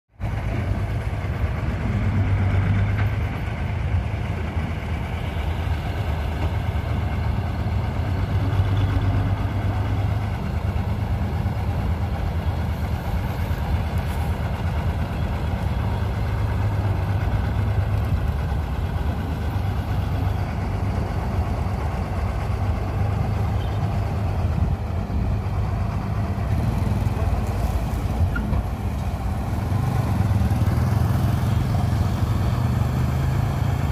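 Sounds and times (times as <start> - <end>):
combine harvester diesel engine droning: 0.1 - 33.9.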